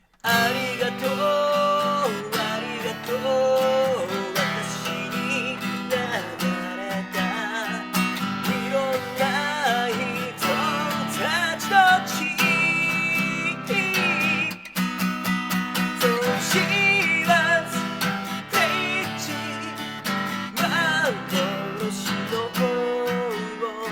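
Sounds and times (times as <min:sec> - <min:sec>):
person singing: 0:00.0 - 0:15.1, 0:15.7 - 0:23.9
acoustic guitar strumming: 0:00.0 - 0:23.9.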